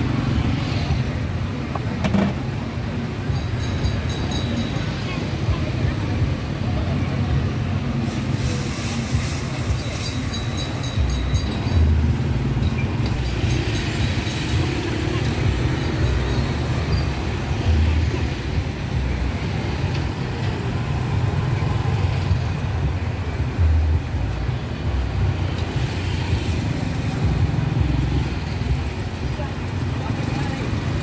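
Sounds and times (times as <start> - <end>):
street traffic rumble: 0.0 - 31.0
vehicles passing close: 0.0 - 31.0.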